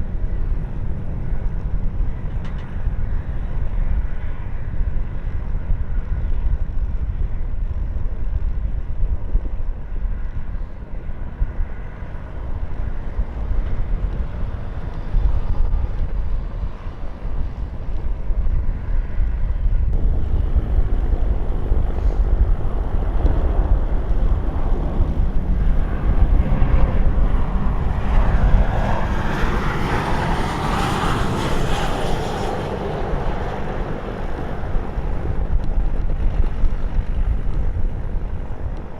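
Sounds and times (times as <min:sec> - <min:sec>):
jet aircraft engine: 0:00.0 - 0:38.9
wind buffeting microphone: 0:00.0 - 0:38.9.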